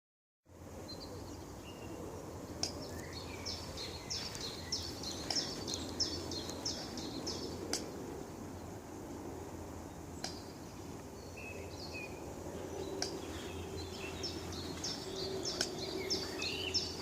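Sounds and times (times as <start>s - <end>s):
low outdoor rumble: 0.5s - 17.0s
songbird singing: 0.5s - 17.0s.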